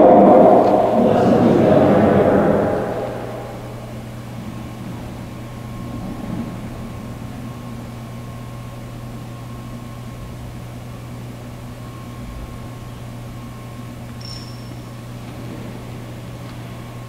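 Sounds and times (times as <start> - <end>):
low hum with faint hiss: 0.0 - 17.0.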